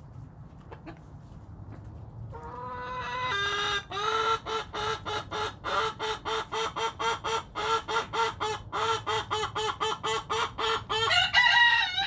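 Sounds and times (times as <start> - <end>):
chicken calling: 2.3 - 12.0.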